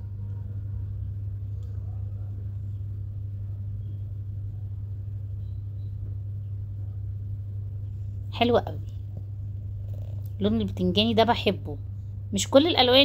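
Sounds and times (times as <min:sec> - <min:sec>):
faint room noise: 0:00.0 - 0:13.0
low electrical hum: 0:00.0 - 0:13.0.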